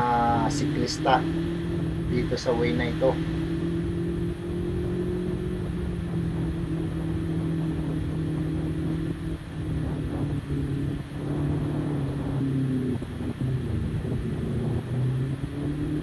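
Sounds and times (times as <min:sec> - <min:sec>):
motorcycle engine cruising: 0:00.0 - 0:16.0
wind rumble on microphone: 0:00.0 - 0:16.0.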